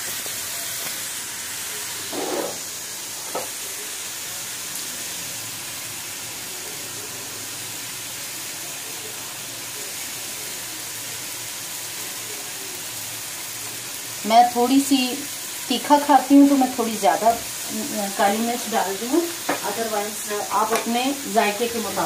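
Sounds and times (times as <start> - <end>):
food frying in a wok: 0.0 - 22.0.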